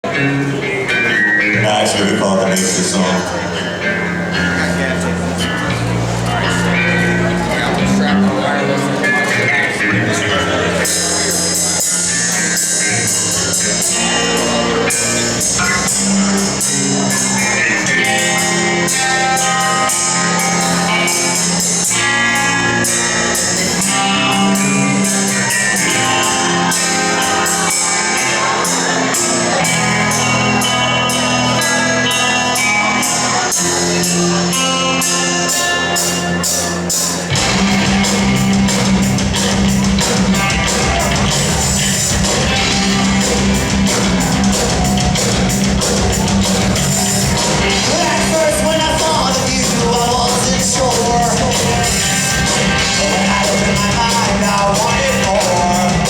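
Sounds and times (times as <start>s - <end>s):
live rock band playing: 0.0s - 56.0s
steady cymbal beat: 10.5s - 56.0s.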